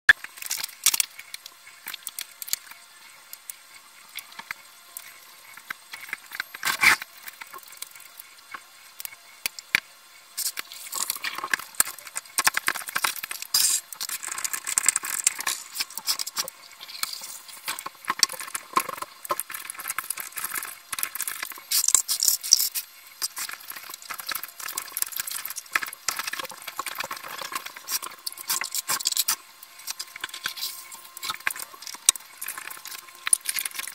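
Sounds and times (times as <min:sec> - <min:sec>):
water splashing and rustling: 0:00.2 - 0:33.9.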